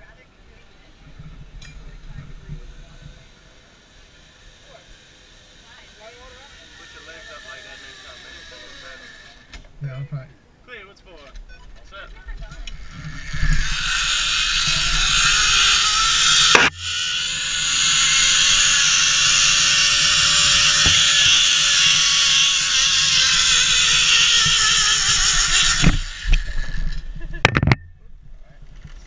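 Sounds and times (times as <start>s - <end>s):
zipline pulleys whirring on cable: 0.5s - 9.5s, 12.4s - 27.4s.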